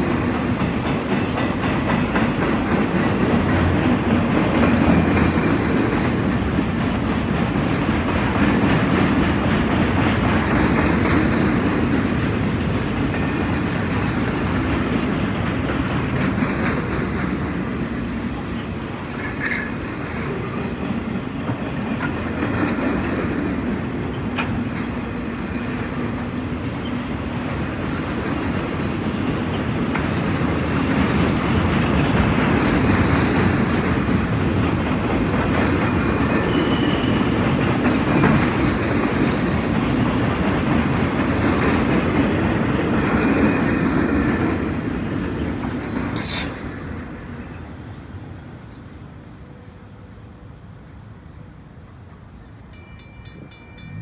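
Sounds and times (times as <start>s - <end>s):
train wheels rumbling and clattering: 0.0s - 54.0s.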